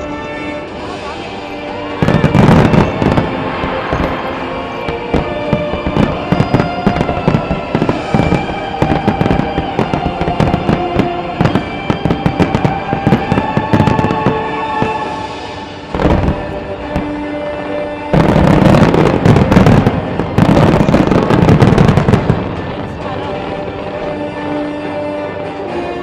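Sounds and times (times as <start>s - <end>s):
fireworks bursting and crackling: 0.0s - 25.6s
music with held tones: 0.0s - 26.0s.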